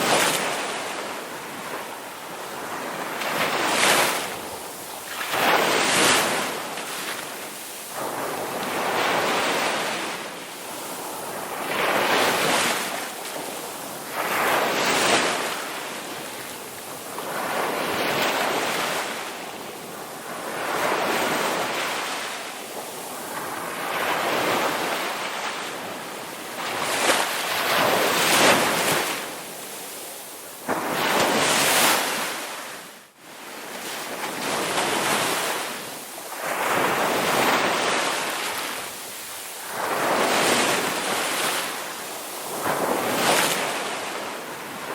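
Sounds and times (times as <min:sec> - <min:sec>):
sea waves breaking on a beach: 0:00.0 - 0:44.9.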